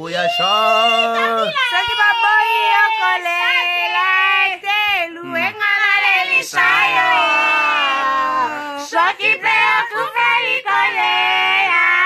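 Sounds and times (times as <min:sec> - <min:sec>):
voices singing: 0:00.0 - 0:12.0.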